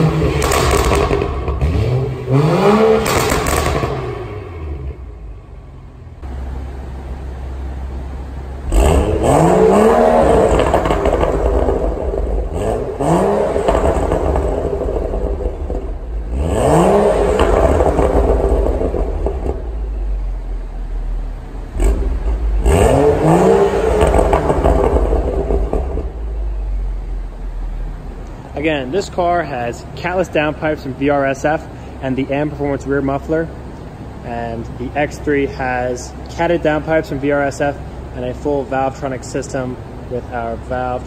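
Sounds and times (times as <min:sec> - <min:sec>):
car engine idling and revving: 0:00.0 - 0:41.0.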